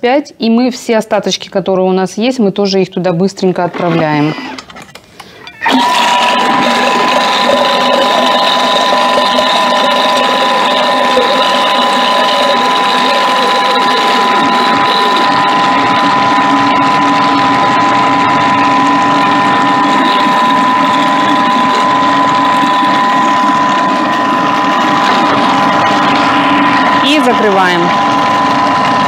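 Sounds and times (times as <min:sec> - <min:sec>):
food processor motor whining: 0:03.7 - 0:29.0.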